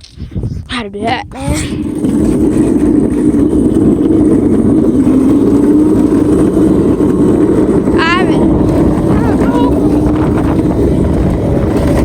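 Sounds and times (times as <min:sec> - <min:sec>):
small vehicle motor running: 0:01.0 - 0:12.0.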